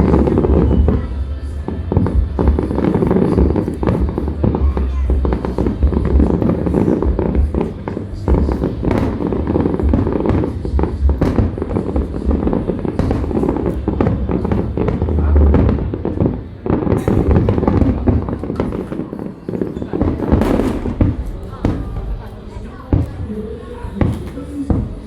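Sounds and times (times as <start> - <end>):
deep fireworks booms: 0.0 - 25.0
fireworks bangs and crackles: 0.0 - 25.0.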